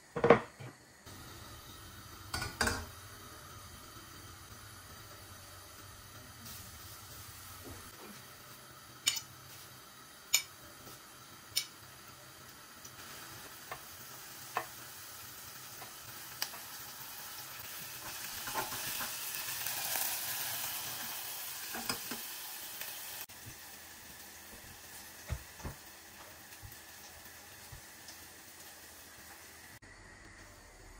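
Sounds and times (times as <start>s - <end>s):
food sizzling in oil: 0.9s - 30.8s.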